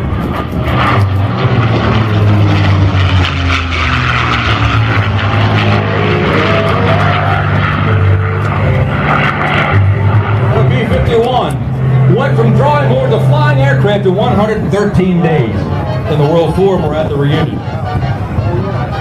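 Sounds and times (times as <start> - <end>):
aircraft engine running: 0.0 - 19.0.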